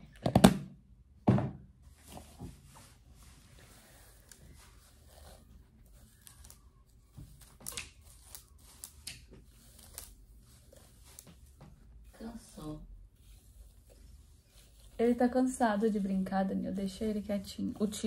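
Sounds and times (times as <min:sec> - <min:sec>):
hairbrush rasping through hair: 0:02.0 - 0:18.0.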